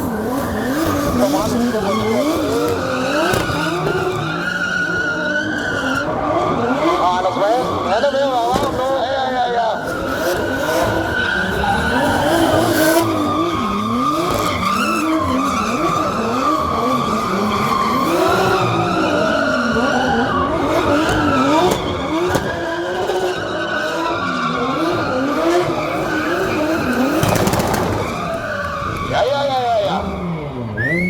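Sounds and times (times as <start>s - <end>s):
car engine revving: 0.0s - 31.0s
tyres squealing: 0.0s - 31.0s.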